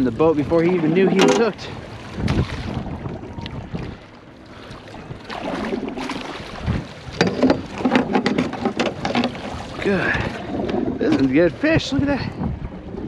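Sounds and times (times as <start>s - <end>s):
wind on microphone: 0.0s - 4.1s, 4.8s - 13.0s.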